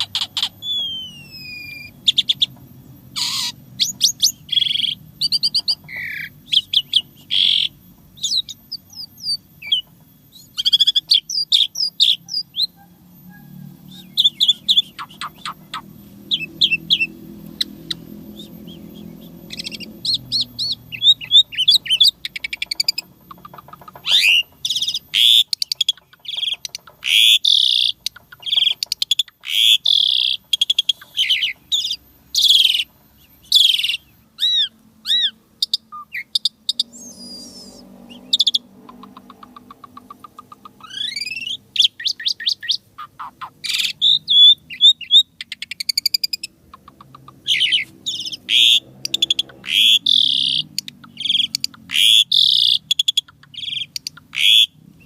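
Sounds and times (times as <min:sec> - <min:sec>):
starling singing whistles and trills: 0:00.0 - 0:55.0.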